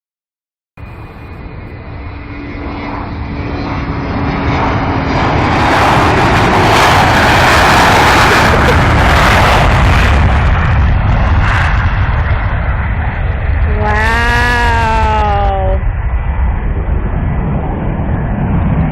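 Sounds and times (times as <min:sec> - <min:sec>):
loud airplane engines: 0:00.8 - 0:18.9.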